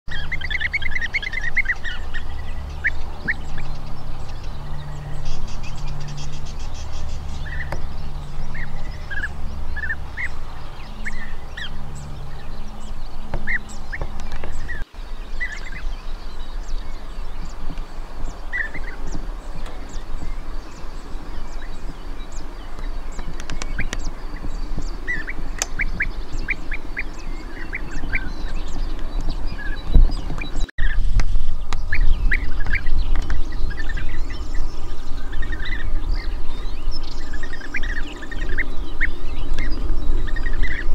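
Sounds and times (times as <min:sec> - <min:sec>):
birds calling rolling notes: 0:00.1 - 0:40.9
low rumble: 0:00.1 - 0:40.9.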